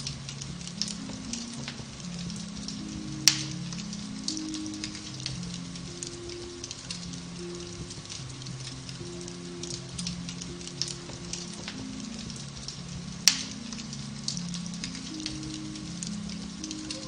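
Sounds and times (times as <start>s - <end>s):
soft piano music: 0.0s - 17.0s
wood fire crackling: 0.0s - 17.0s.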